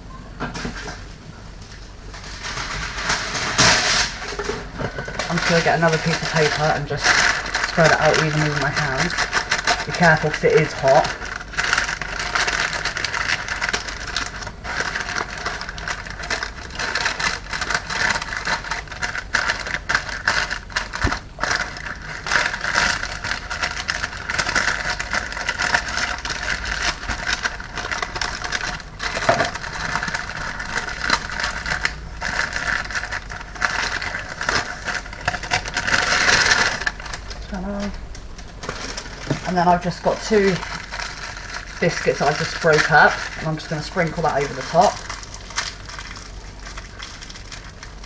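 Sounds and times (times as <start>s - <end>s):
paper crinkling and rustling: 0.5s - 48.0s.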